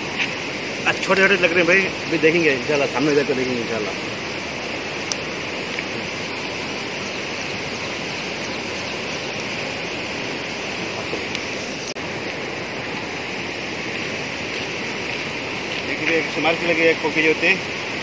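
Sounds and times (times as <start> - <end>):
fast-flowing water rushing: 0.0 - 18.0.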